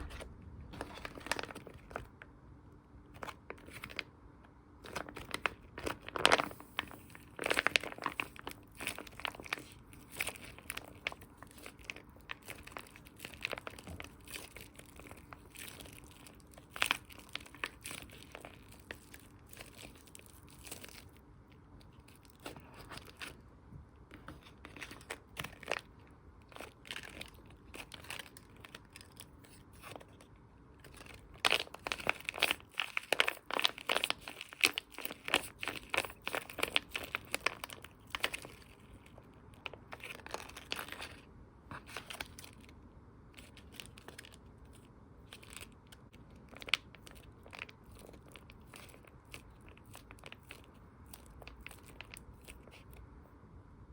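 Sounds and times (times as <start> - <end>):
squishy toy crinkling: 0.0 - 2.2, 3.1 - 4.1, 4.8 - 23.4, 24.1 - 53.1.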